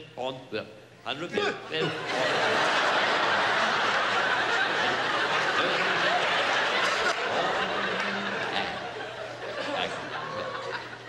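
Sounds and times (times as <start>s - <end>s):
audience laughing: 1.4s - 11.0s.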